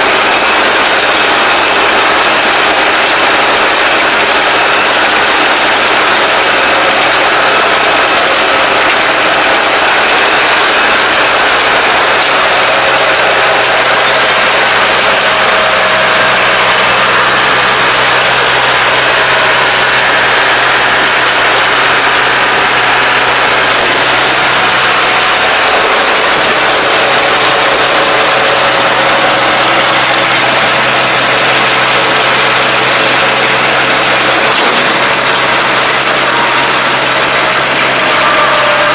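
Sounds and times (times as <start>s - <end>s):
baler mechanical din: 0.0s - 38.9s
tractor engine hum: 0.0s - 38.9s.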